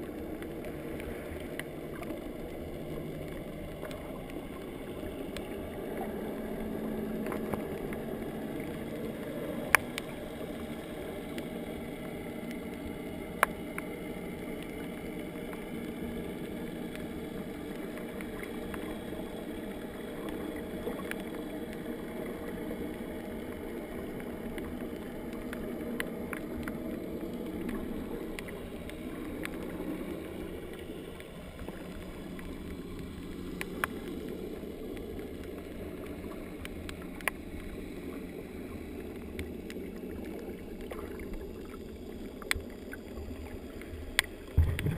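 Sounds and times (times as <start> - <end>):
underwater rumble of moving water: 0.0 - 44.9.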